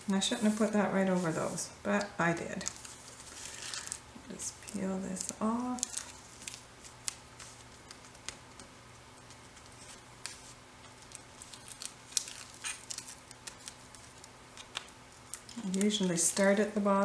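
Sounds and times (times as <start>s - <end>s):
faint steady hum: 0.0s - 17.0s
tape backing being peeled: 2.6s - 17.0s.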